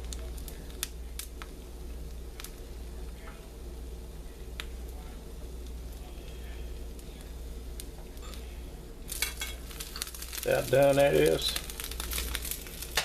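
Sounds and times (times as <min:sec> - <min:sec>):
egg frying pops and crackles: 0:00.0 - 0:03.6, 0:04.4 - 0:13.0
steady low hum: 0:00.0 - 0:13.0.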